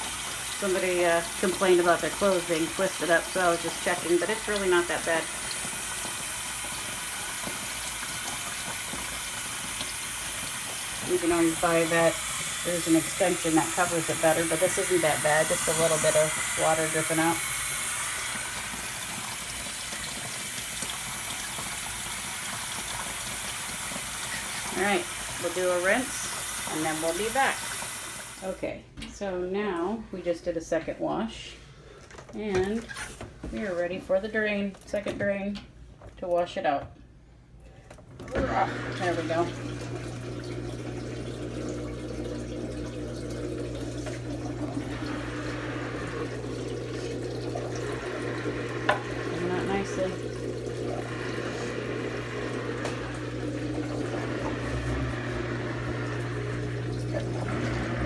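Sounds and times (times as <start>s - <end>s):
washing machine water rushing: 0.0s - 28.7s, 38.2s - 58.0s
drain pump humming: 0.0s - 28.8s, 38.2s - 58.0s.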